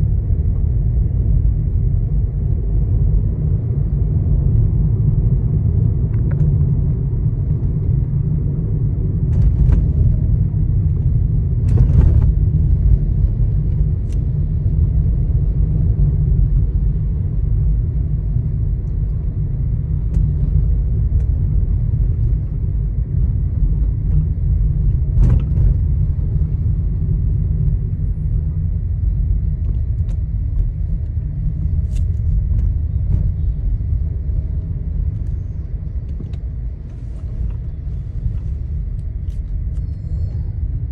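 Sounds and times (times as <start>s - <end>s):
road and engine rumble in cabin: 0.0s - 40.9s.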